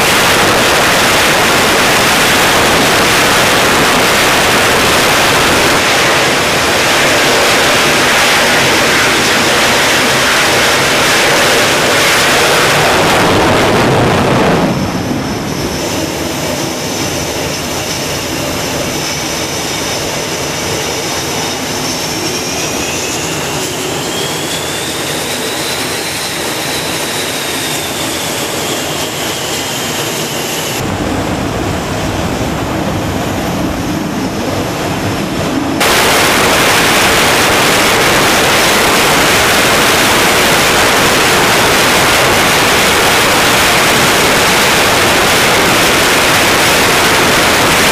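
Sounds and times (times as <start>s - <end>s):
jet engines whining: 0.0s - 47.9s
loud steady rushing noise: 0.0s - 47.9s.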